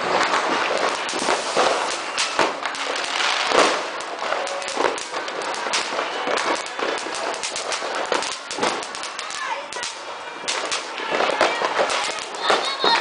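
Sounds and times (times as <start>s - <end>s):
firecracker crackle: 0.0s - 13.0s
fireworks bangs and pops: 0.0s - 13.0s.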